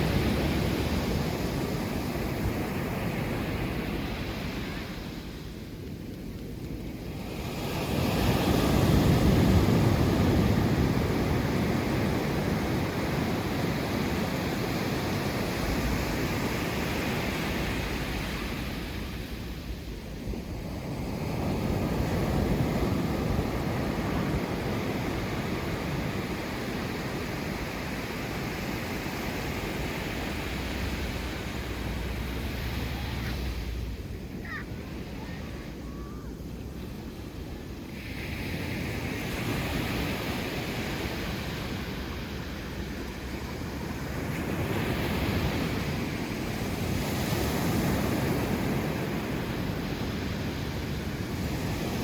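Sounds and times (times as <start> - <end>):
sea waves breaking on shore: 0.0 - 52.0.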